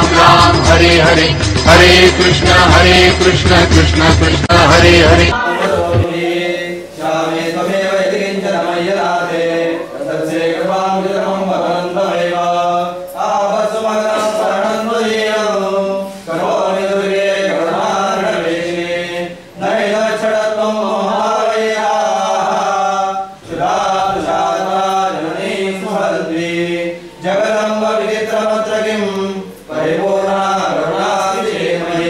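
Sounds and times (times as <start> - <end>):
group chanting together: 0.0 - 32.0.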